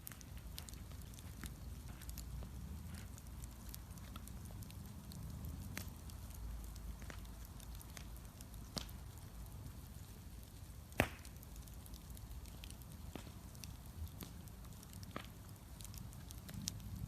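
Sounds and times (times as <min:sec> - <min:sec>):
bonfire crackling: 0:00.0 - 0:17.0
fire popping: 0:00.0 - 0:17.0.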